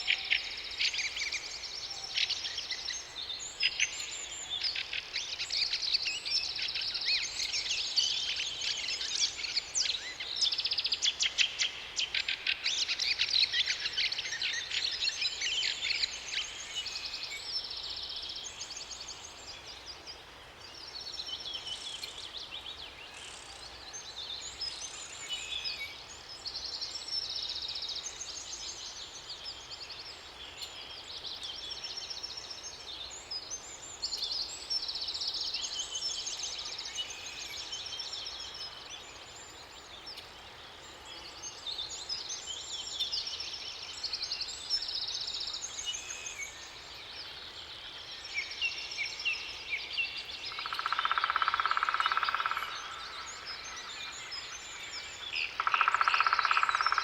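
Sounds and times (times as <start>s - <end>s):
faint steady background noise: 0.0s - 57.0s
songbirds singing: 0.0s - 57.0s.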